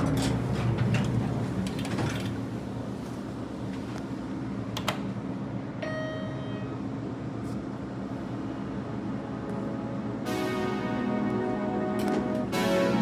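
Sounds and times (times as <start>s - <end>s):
elevator low hum: 0.0s - 13.0s.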